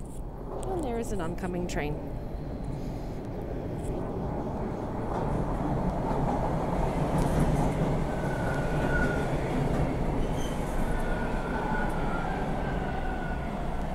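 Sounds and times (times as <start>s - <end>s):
subway train rumble: 0.0s - 13.9s.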